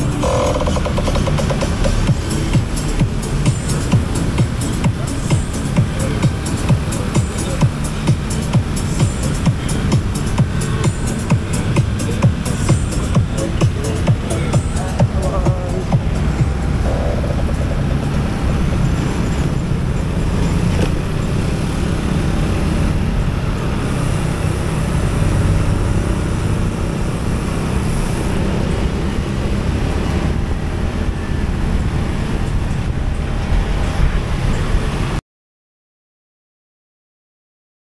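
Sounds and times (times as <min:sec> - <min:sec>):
motorcycle engine rumbling: 0:00.0 - 0:35.2
surrounding traffic: 0:00.0 - 0:35.2.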